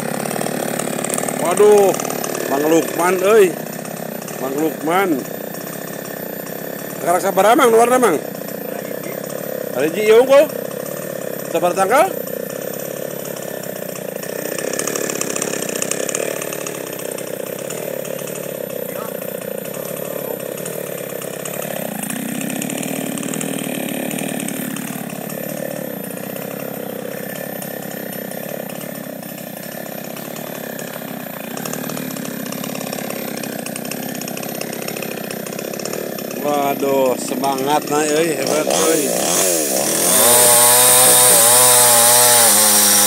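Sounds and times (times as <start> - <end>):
chainsaw cutting tree trunk: 0.0 - 43.0.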